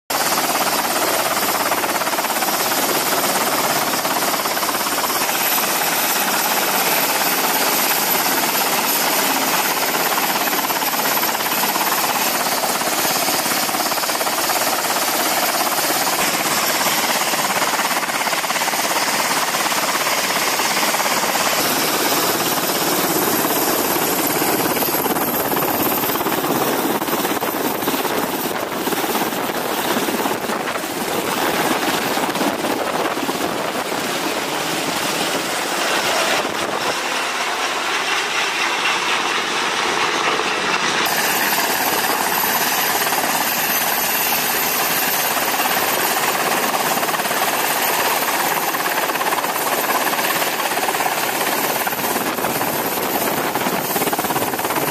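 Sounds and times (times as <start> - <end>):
helicopter rotor and turbine noise: 0.1 - 54.9
high turbine whine: 0.1 - 54.9.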